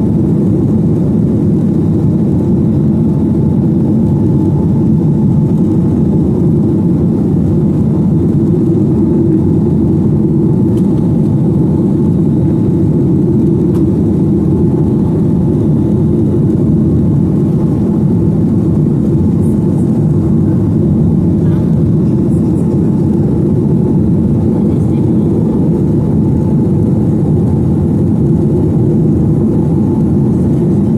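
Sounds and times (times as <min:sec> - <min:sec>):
aircraft engines humming: 0:00.0 - 0:30.9.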